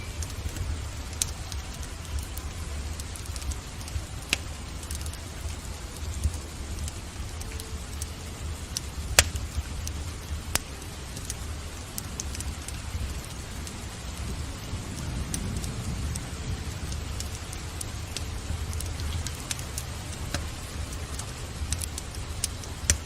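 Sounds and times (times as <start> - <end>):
fire pops: 0.0 - 23.0
steady rain: 0.0 - 23.0
wood fire crackling: 0.0 - 23.0.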